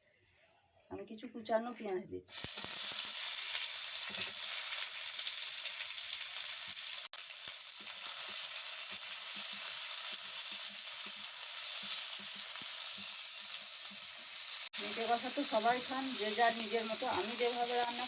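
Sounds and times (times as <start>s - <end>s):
onion sizzling in hot oil: 2.3s - 18.0s.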